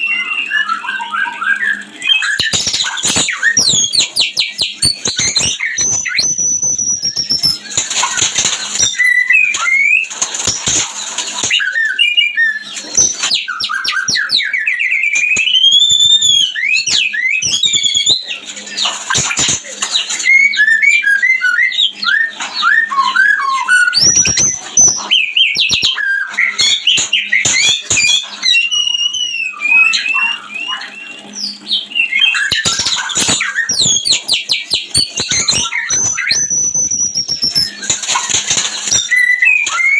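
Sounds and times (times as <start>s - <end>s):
birds singing whistled song: 0.0s - 39.9s.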